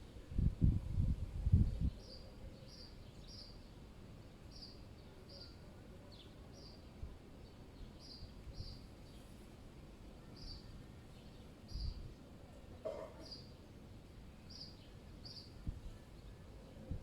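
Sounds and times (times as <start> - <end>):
low rumble of wind: 0.0 - 5.3, 5.9 - 12.9, 13.6 - 17.0.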